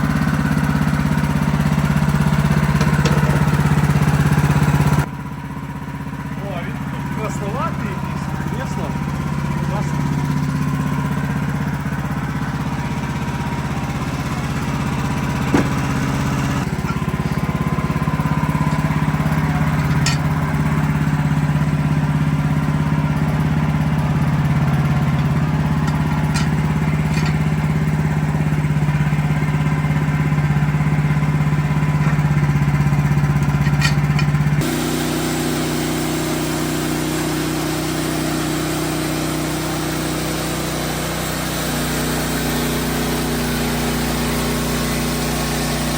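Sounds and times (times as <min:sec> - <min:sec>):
sawmill engine running: 0:00.0 - 0:45.9.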